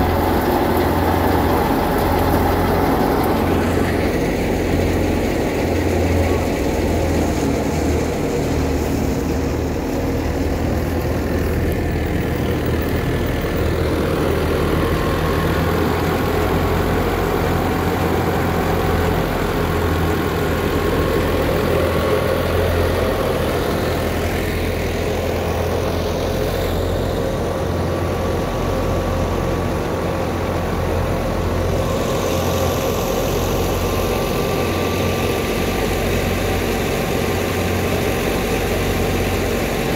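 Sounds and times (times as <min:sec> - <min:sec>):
tractor diesel engine running: 0:00.0 - 0:39.9
wheat thresher running: 0:00.0 - 0:39.9.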